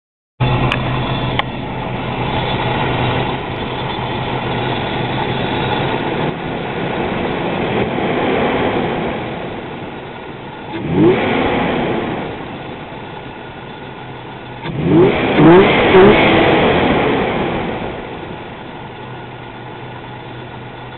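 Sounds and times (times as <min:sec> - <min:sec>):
car engine idling and revving: 0:00.4 - 0:20.9.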